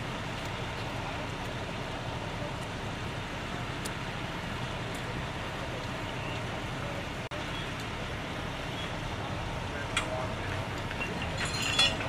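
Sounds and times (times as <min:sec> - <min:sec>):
diesel engines rumbling: 0:00.0 - 0:12.0.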